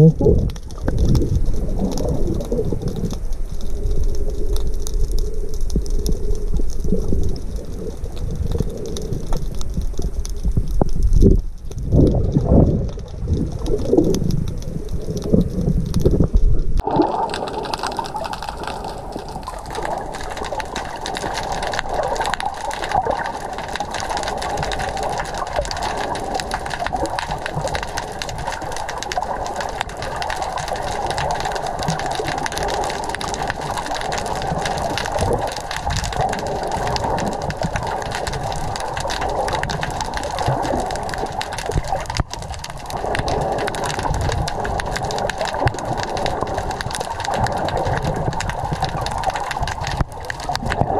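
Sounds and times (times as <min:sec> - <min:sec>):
crackle of small clicks: 0:00.0 - 0:50.9
muffled underwater water noise: 0:00.0 - 0:50.9.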